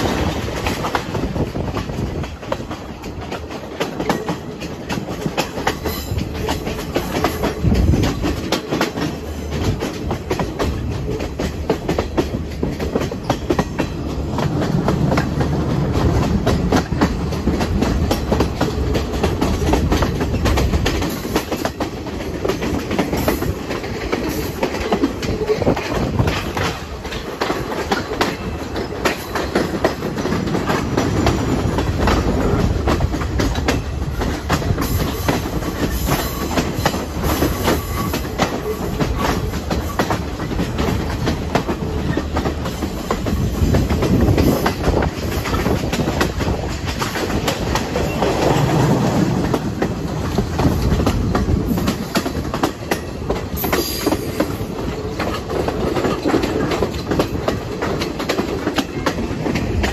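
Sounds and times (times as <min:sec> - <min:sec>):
train rumble: 0:00.0 - 0:59.9
wheels clattering over rail joints: 0:00.0 - 0:59.9.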